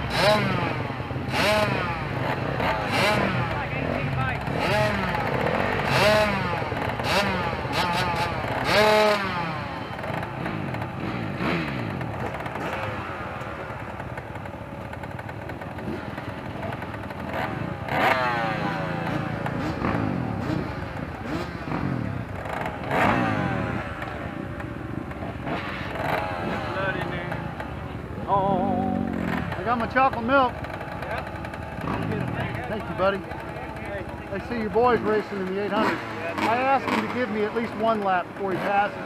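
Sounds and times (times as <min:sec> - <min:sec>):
dirt bike engines idling: 0:00.0 - 0:39.0.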